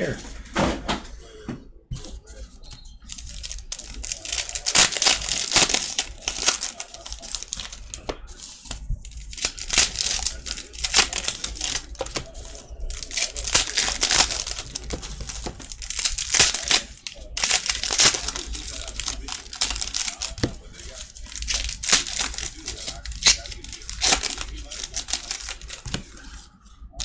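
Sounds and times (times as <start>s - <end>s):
foil wrappers crinkling and tearing: 3.0s - 27.0s.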